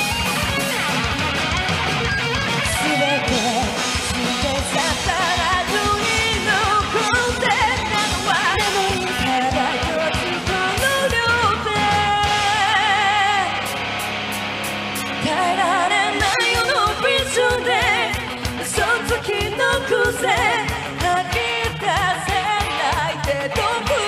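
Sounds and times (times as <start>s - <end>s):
hard rock band playing: 0.0s - 24.0s
woman singing with vibrato: 2.7s - 13.7s, 15.2s - 24.0s.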